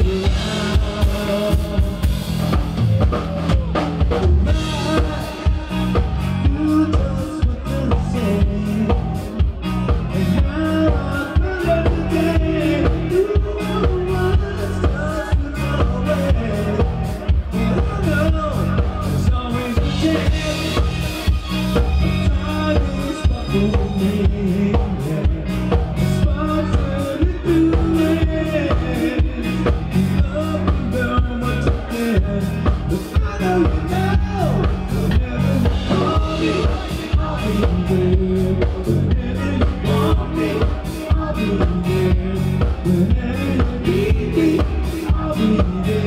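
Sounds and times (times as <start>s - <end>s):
live rock band playing: 0.0s - 46.0s
steady drum beat: 0.0s - 46.0s.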